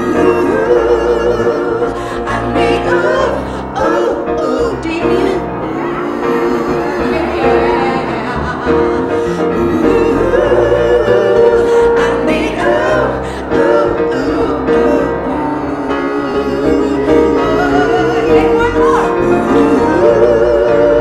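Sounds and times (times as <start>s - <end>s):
piano: 0.0s - 21.0s.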